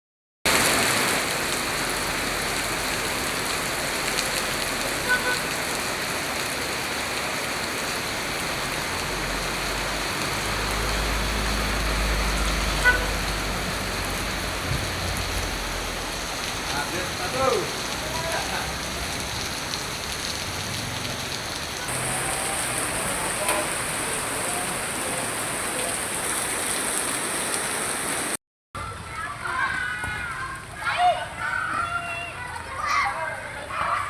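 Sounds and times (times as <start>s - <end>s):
rain falling: 0.5s - 28.4s.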